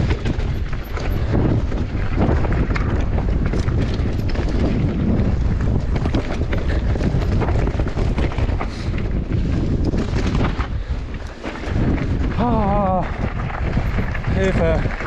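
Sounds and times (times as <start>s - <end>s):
bike rattling: 0.0s - 15.0s
bike tyres rolling over rough ground: 0.0s - 15.0s
wind rumble on microphone: 0.0s - 15.0s.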